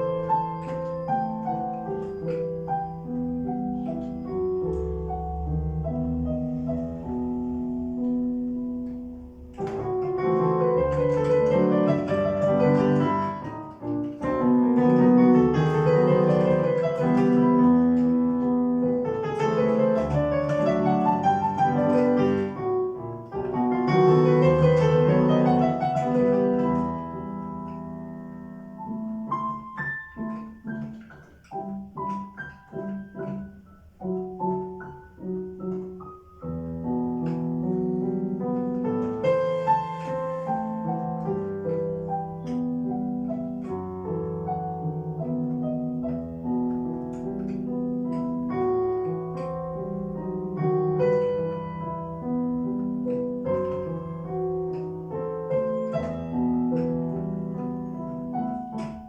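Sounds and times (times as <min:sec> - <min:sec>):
piano piece: 0:00.0 - 0:59.0.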